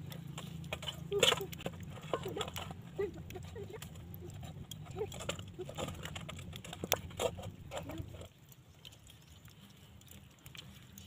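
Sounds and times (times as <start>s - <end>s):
wet squelches: 0.0s - 11.0s.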